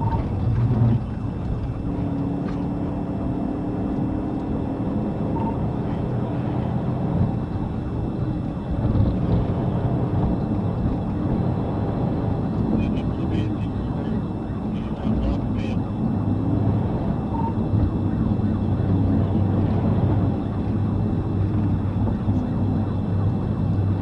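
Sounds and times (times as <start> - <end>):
car interior road and engine noise: 0.0 - 24.0.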